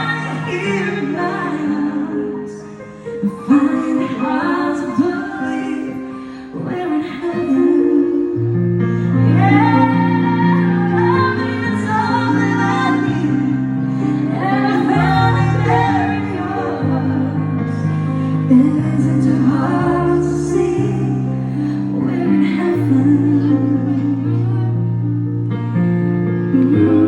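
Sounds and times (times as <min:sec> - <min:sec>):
woman singing slow song: 0:00.0 - 0:25.2, 0:26.5 - 0:27.0.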